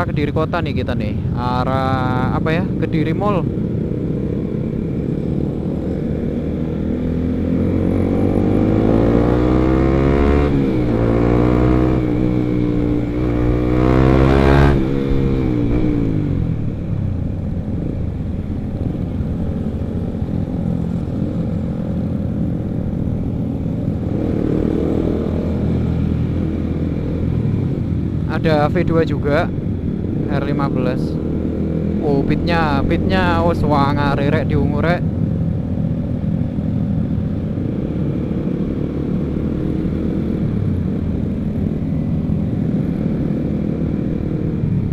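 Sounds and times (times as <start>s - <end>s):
motorcycle engine accelerating: 1.6s - 44.9s.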